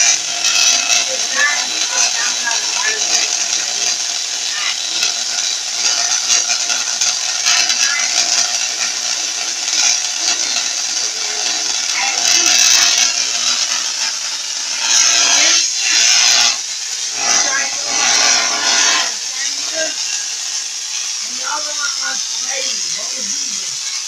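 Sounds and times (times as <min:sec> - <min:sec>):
tesla coil electrical buzz: 0:00.0 - 0:24.0.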